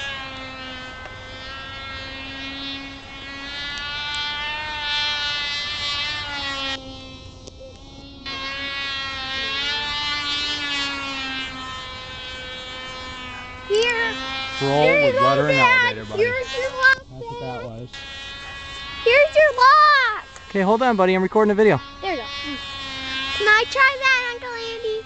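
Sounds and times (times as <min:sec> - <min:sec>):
model plane engine buzzing whine: 0:00.0 - 0:25.0.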